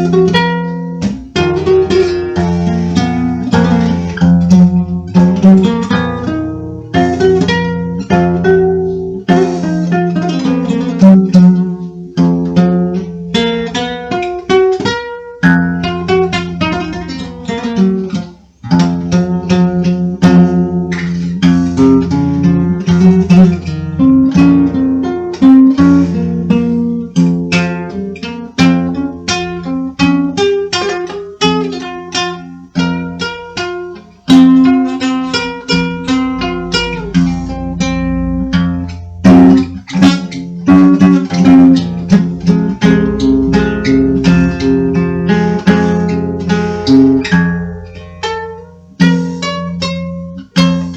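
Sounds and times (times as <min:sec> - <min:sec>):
acoustic guitar music: 0:00.0 - 0:50.9.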